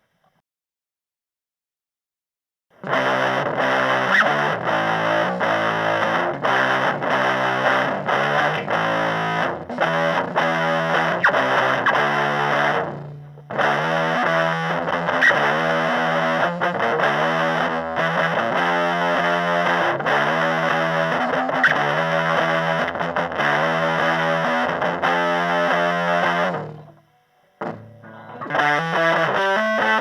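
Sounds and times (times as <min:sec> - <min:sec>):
distorted electric guitar chords: 0:02.8 - 0:30.0.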